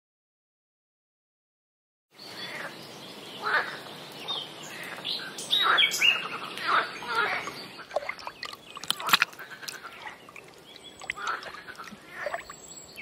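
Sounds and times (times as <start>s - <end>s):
steady outdoor background hiss: 2.1s - 13.0s
birds chirping: 2.2s - 13.0s.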